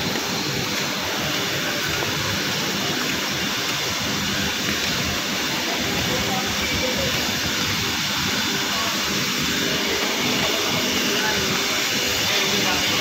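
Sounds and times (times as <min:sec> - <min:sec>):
industrial machinery rushing noise: 0:00.0 - 0:13.0.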